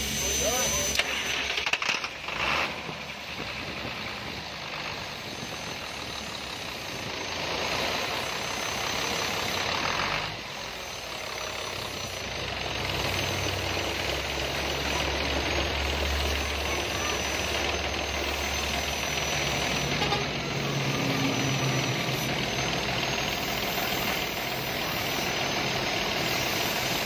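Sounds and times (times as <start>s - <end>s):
rushing noise: 0.0s - 27.0s
truck diesel engine idling: 0.0s - 27.0s.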